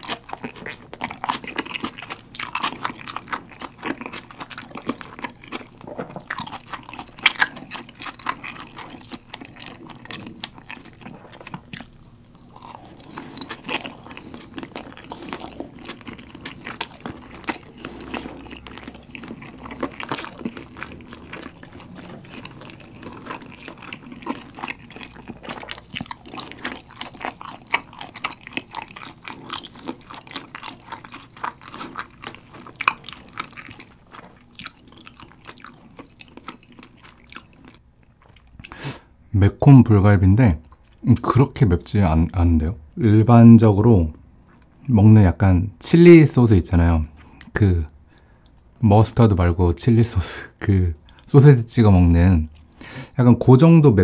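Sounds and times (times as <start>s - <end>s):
close chewing and crunching: 0.0s - 39.1s, 40.5s - 43.0s, 45.9s - 49.2s, 51.0s - 53.5s.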